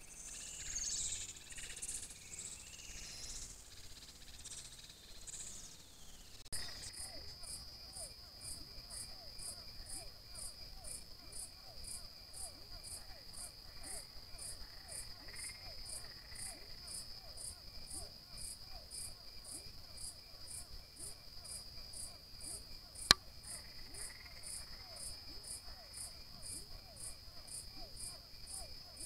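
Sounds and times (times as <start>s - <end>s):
crickets trilling: 0.1s - 29.0s.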